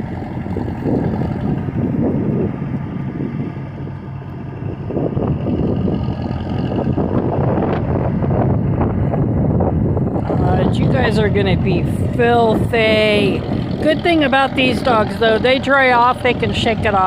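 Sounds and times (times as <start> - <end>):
heavy equipment engine running: 0.0 - 17.0.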